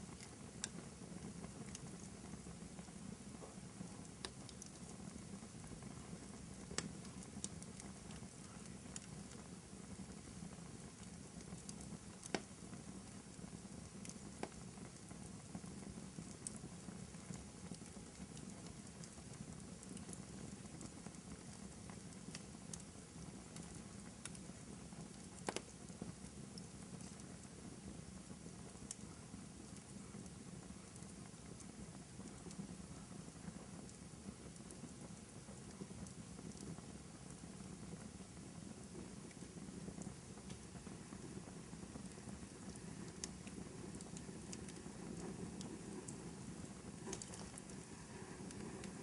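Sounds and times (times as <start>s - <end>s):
fire burning: 0.0s - 49.0s
fire crackling and popping: 0.0s - 49.0s.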